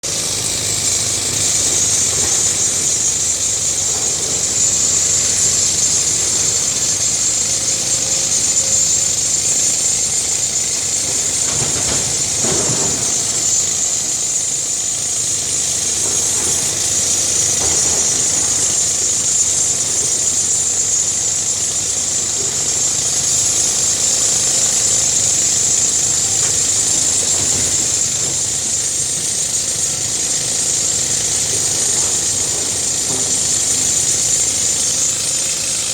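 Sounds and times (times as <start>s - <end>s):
excavator diesel engine running: 0.0s - 35.9s
high hiss: 0.0s - 35.9s.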